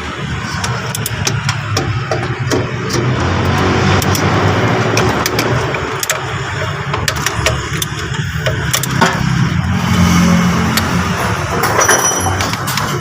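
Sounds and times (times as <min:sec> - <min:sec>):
hand tools clicking and clinking: 0:00.2 - 0:03.2, 0:03.8 - 0:09.4, 0:10.7 - 0:13.0.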